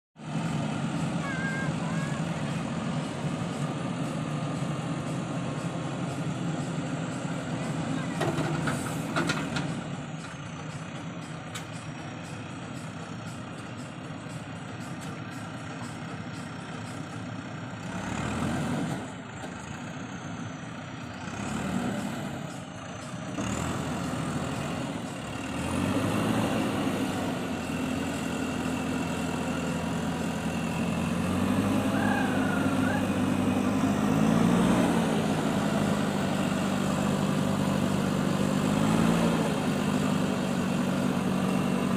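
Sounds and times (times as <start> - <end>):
heavy diesel engines revving: 0.2 - 41.9.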